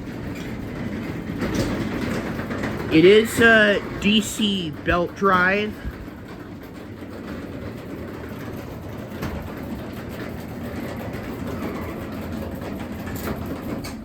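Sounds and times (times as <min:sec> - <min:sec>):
garage door opener motor: 0:00.0 - 0:14.0
garage door rolling and rattling: 0:00.0 - 0:14.0.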